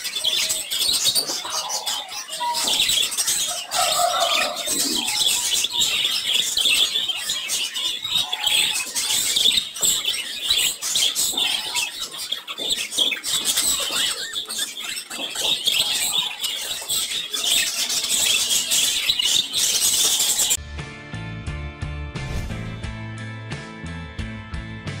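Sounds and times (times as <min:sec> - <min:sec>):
budgerigars chattering: 0:00.0 - 0:20.6.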